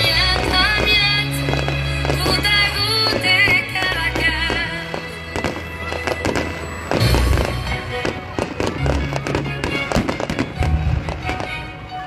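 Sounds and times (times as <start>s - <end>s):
fireworks booming: 0.0s - 11.7s
fireworks crackling: 0.0s - 12.0s
music: 0.0s - 12.0s.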